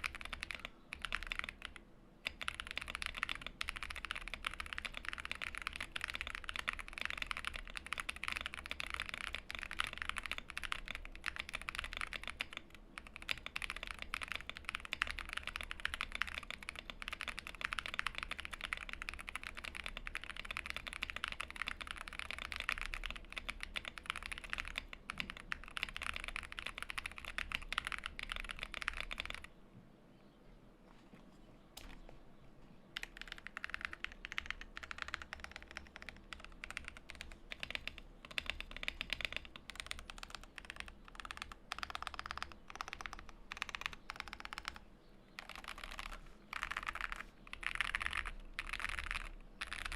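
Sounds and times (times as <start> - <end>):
mechanical keyboard typing: 0.0 - 29.5, 33.0 - 49.9.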